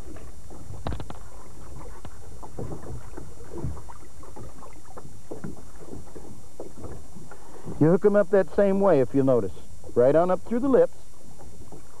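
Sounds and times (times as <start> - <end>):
knocks and splashes in bait well: 0.0 - 12.0
water lapping at boat: 0.0 - 12.0.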